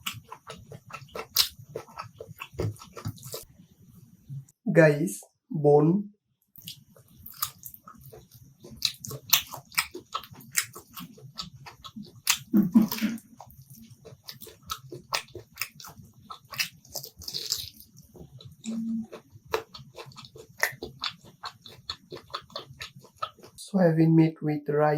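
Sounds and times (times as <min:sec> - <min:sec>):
chewing meat off a bone: 0:00.0 - 0:03.5, 0:06.6 - 0:23.6.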